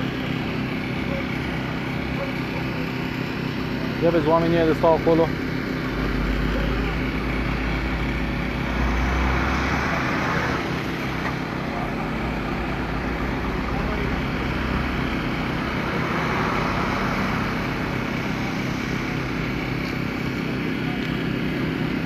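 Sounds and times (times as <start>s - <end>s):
road and traffic noise: 0.0s - 22.0s
vehicle engine running: 0.0s - 22.0s.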